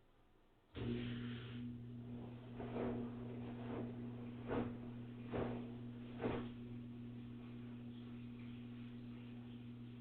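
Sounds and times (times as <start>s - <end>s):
washing machine humming: 0.8s - 10.0s
washing machine whooshing: 0.9s - 10.0s.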